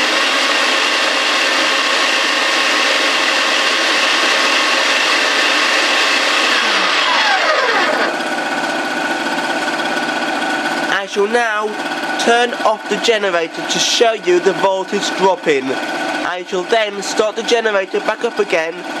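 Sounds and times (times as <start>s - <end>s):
electric grinder motor whining: 0.0s - 19.0s
two-stroke generator engine running: 0.0s - 19.0s.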